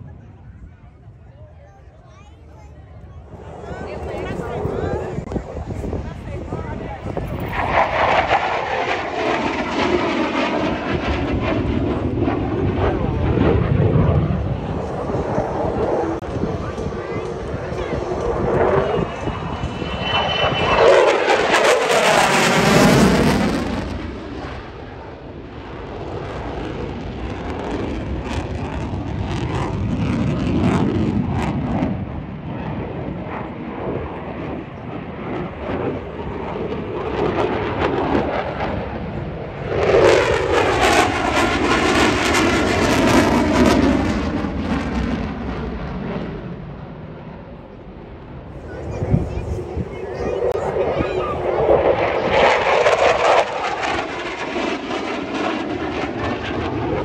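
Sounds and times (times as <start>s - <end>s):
jet engine roar of passing fighter: 0.0s - 57.0s.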